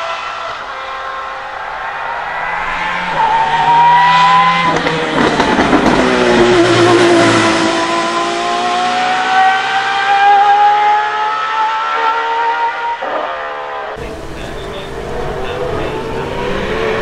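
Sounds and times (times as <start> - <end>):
car engine at high revs passing: 0.0 - 17.0.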